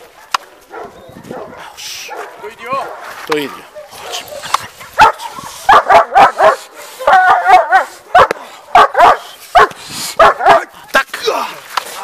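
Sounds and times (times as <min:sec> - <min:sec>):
dog barking excitedly: 0:00.1 - 0:10.8.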